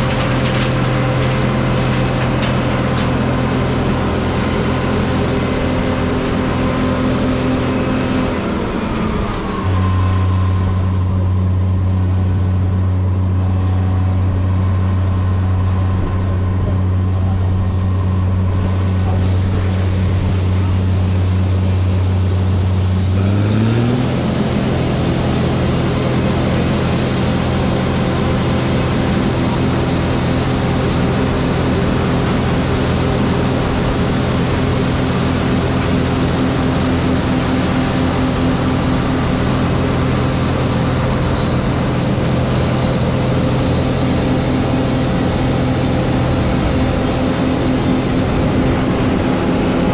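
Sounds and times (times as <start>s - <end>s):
combine diesel engine humming: 0.0s - 49.9s.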